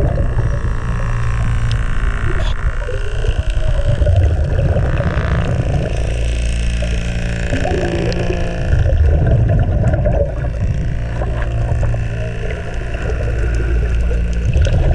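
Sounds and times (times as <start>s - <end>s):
gurgling bubbles: 0.0s - 14.9s
low mechanical hum underwater: 0.0s - 14.9s.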